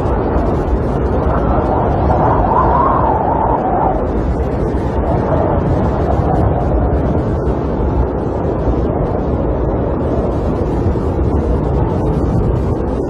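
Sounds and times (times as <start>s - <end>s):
snowstorm wind rushing: 0.0s - 13.0s.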